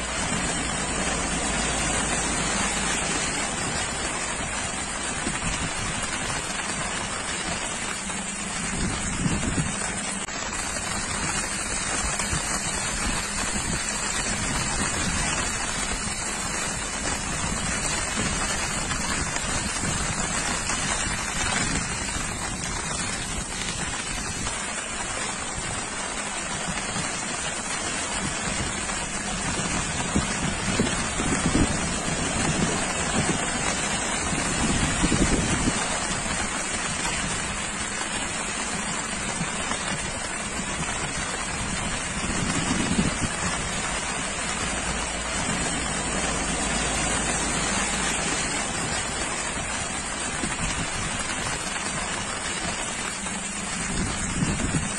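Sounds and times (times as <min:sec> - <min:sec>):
car driving through water: 0:00.0 - 0:54.9
rain and flowing floodwater: 0:00.0 - 0:54.9
wind buffeting microphone: 0:00.0 - 0:54.9.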